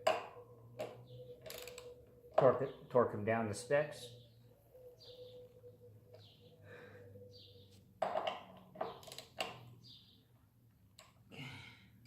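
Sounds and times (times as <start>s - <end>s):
bird chirping: 0.1s - 10.4s.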